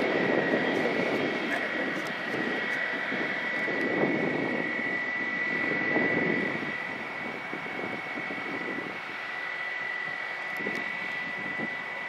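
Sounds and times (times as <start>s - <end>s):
jet engines whining at taxi: 0.0s - 12.0s.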